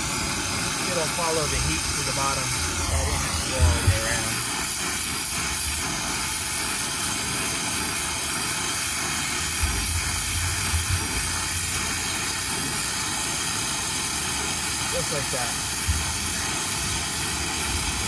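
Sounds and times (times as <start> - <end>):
brazing torch flame hissing: 0.0 - 18.0.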